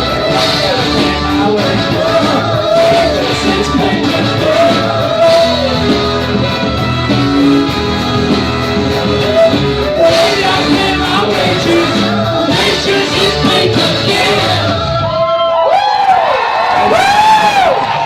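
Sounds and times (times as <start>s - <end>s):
person singing: 0.0s - 15.4s
loud guitar-driven rock band: 0.0s - 15.6s.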